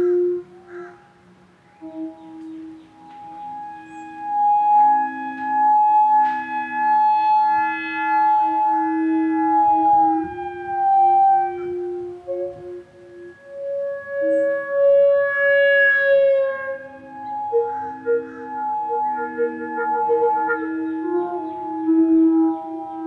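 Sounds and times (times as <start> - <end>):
theremin music: 0.0 - 23.0.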